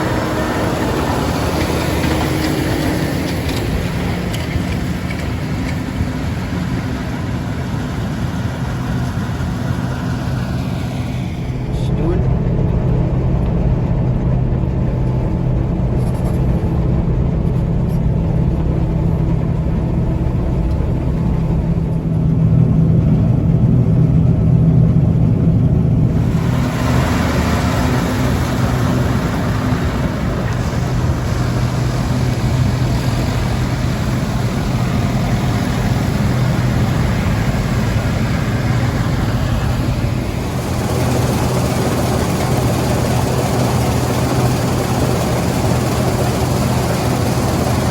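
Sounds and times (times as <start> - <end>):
hissy mechanical clatter: 0.0 - 24.2, 25.5 - 47.9
diesel engines humming: 0.0 - 47.9.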